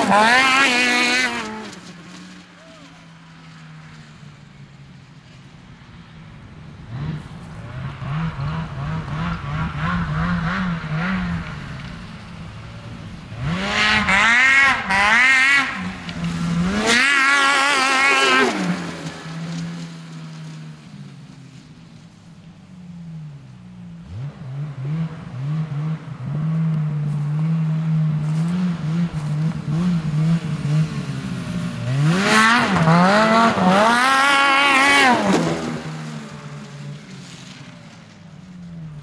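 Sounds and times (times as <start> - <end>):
snowmobile engine revving: 0.0 - 4.1, 6.2 - 21.8, 22.4 - 39.0.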